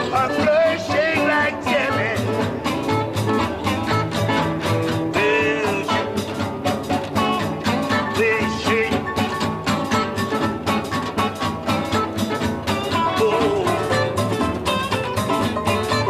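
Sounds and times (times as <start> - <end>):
blues band playing: 0.0 - 16.0.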